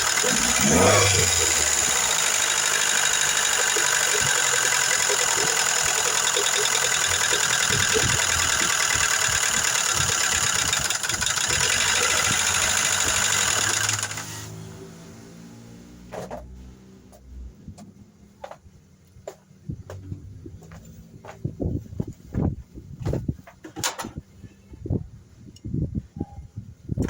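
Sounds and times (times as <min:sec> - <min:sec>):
car engine with ticking lifters: 0:00.0 - 0:22.6.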